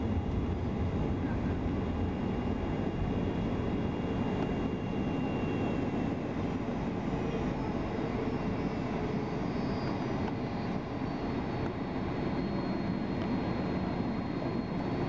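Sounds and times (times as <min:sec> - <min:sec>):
faint high whine: 0:00.0 - 0:15.0
jet engines low hum: 0:00.0 - 0:15.0.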